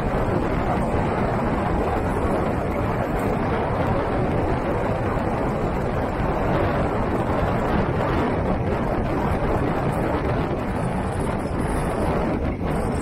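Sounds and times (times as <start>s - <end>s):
tyre and road rumble: 0.0s - 13.0s
wind buffeting microphone: 0.0s - 13.0s.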